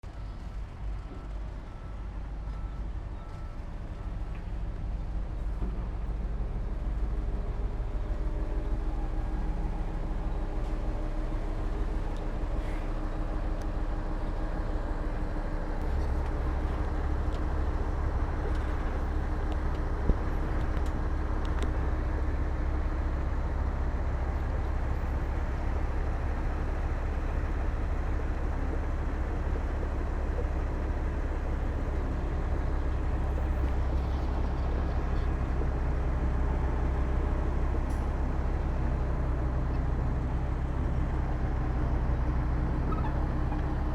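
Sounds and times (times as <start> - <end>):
heavy diesel machinery rumble: 0.0 - 43.9.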